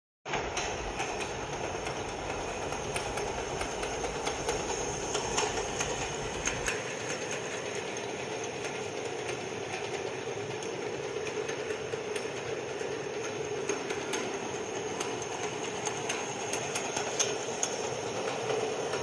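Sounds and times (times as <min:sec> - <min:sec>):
machine noise with high whine: 0:00.3 - 0:19.0.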